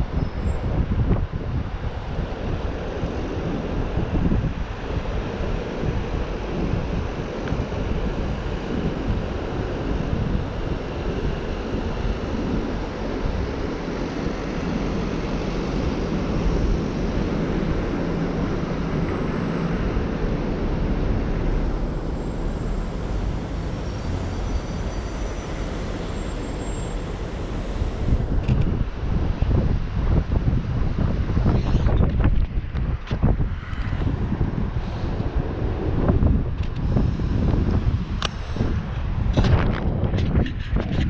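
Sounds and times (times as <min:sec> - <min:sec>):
passing vehicles rumble: 0:00.0 - 0:41.0
wind noise on microphone: 0:00.0 - 0:41.0.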